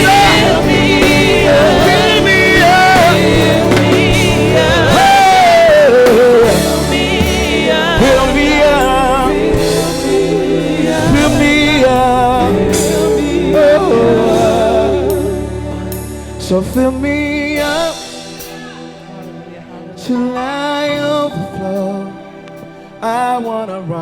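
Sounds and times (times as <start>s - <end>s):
person singing with vibrato: 0.0s - 24.0s
sustained instrumental accompaniment: 0.0s - 24.0s.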